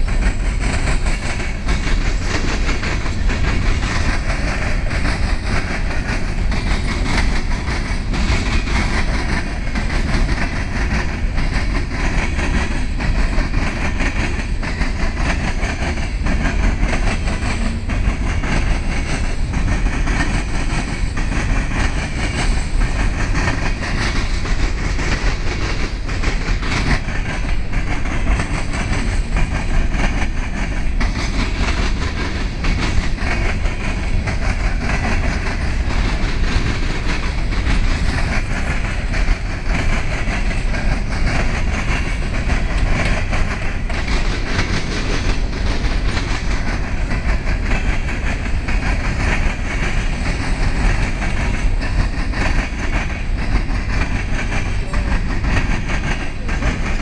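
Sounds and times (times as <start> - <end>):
train wheels rumbling: 0.0 - 57.0
wheels clattering over rail joints: 0.0 - 57.0.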